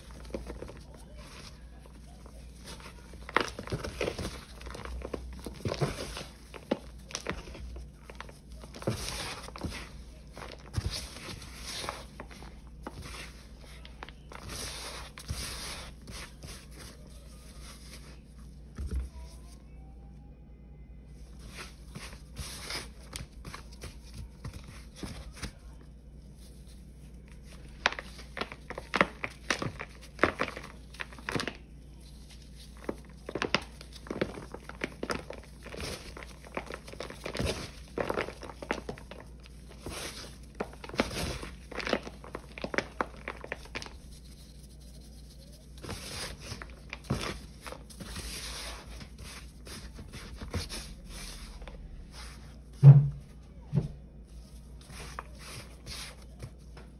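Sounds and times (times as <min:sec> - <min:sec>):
rubbing and sifting powder: 0:00.0 - 0:18.6, 0:21.2 - 0:52.7
crunching and crackling of dried paste: 0:00.0 - 0:19.7, 0:21.1 - 0:52.8, 0:54.1 - 0:56.9.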